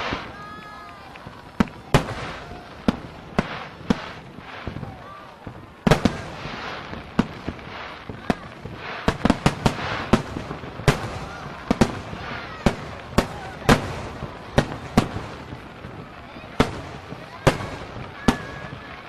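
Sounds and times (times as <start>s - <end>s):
background hiss: 0.0s - 19.0s
fireworks bangs: 0.0s - 19.0s.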